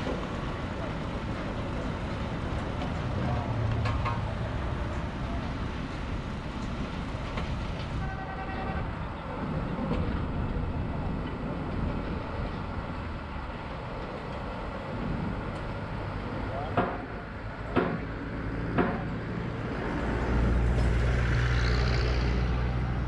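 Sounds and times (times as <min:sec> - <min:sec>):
drilling rig engine rumbling: 0:00.0 - 0:23.0.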